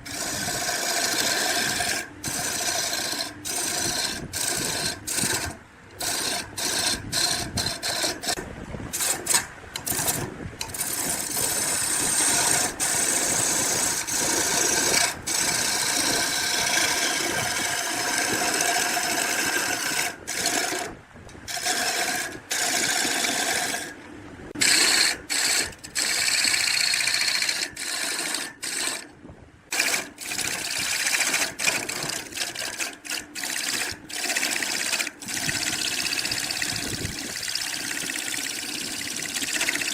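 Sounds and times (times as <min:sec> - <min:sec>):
small power tool working wood: 0:00.0 - 0:08.4, 0:09.0 - 0:24.0, 0:24.6 - 0:29.1, 0:29.7 - 0:39.9.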